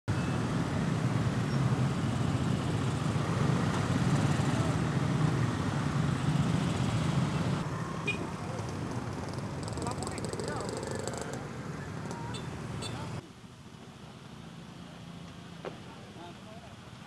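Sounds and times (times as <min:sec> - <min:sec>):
motorcycle traffic rumble: 0:00.1 - 0:17.0.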